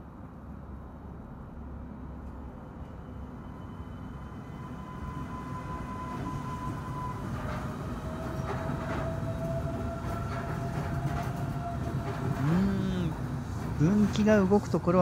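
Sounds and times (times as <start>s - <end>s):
rubber-tyred train rumbling: 0.0s - 15.0s.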